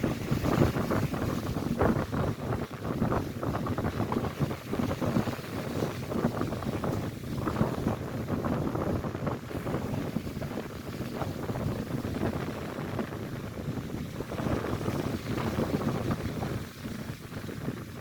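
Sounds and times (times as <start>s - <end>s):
lake waves breaking on shore: 0.0s - 18.0s
wind buffeting microphone: 0.0s - 18.0s.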